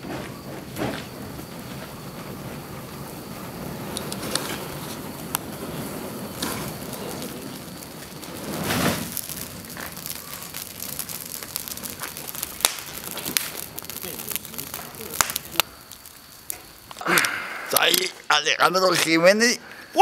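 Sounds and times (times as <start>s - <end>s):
fire crackling: 0.0s - 20.0s
fire rushing: 0.0s - 20.0s
sharp pops of fire: 0.0s - 20.0s.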